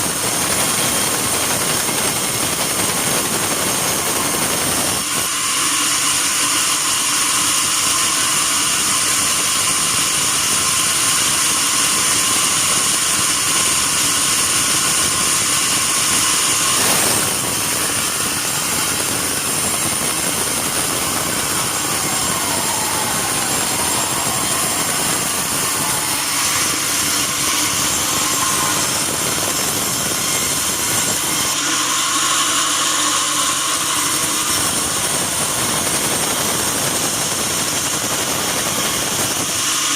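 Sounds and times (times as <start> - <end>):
band saw whining: 0.0 - 39.9.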